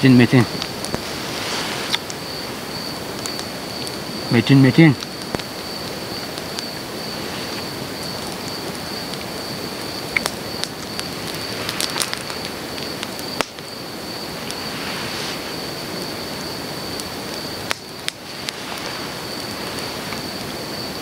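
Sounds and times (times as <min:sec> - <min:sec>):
raindrops ticking: 0:00.0 - 0:01.1, 0:01.9 - 0:14.7, 0:15.4 - 0:21.0
rain falling: 0:00.0 - 0:21.0.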